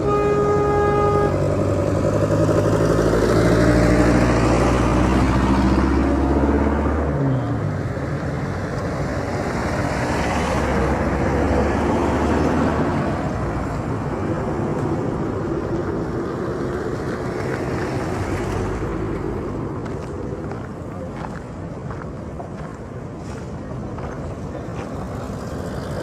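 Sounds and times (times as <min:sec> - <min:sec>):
low engine hum: 0:00.0 - 0:26.0
road and wind noise: 0:00.0 - 0:26.0.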